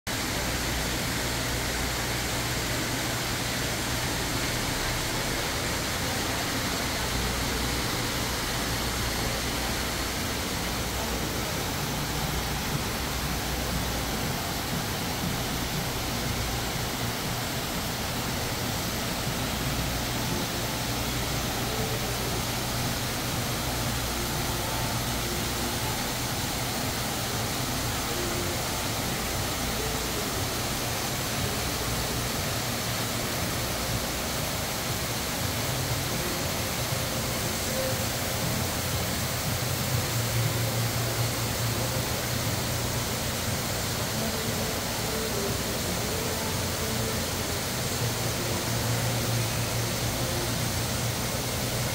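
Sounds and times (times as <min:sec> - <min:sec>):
waterfall rushing into pool: 0:00.1 - 0:51.9.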